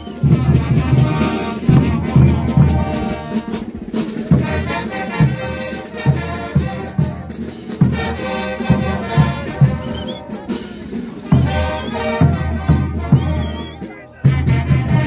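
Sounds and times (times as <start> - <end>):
bass drum beat: 0.0 - 15.0
brass instruments playing tune: 0.0 - 15.0.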